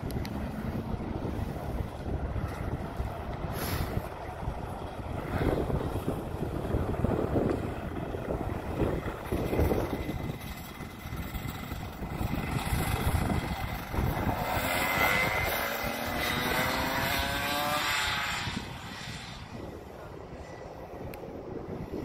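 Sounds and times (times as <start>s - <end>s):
go-kart engine accelerating: 0.0s - 20.5s.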